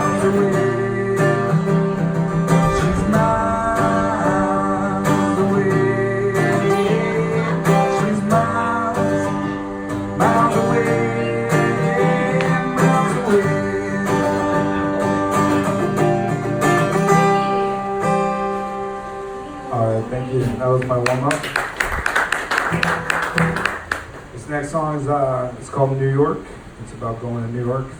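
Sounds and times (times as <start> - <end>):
acoustic guitar strumming chords: 0.0 - 25.2.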